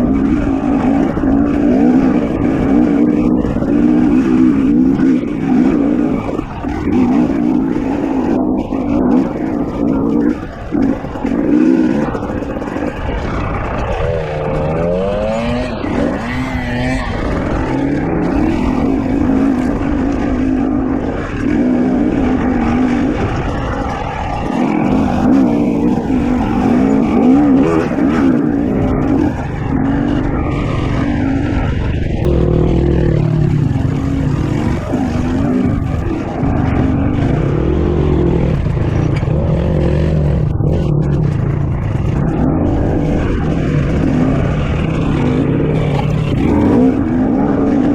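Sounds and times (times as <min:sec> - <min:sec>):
low steady engine note: 0:00.0 - 0:47.9
two-stroke dirt bike engine: 0:00.0 - 0:47.9.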